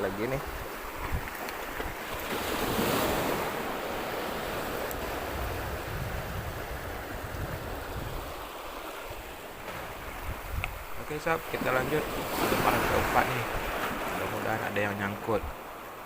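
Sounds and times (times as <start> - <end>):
wind buffeting the microphone: 0.0 - 14.5
sea waves washing on a beach: 0.0 - 16.0.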